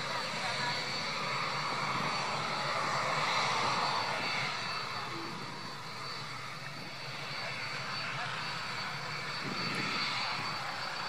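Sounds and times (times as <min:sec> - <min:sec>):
jet taxiing with high whine: 0:00.0 - 0:11.0.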